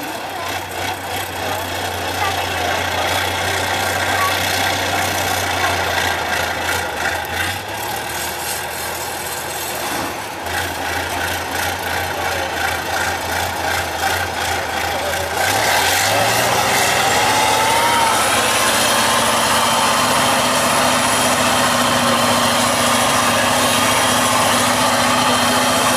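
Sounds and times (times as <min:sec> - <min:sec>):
truck diesel engine revving: 0:00.0 - 0:25.9.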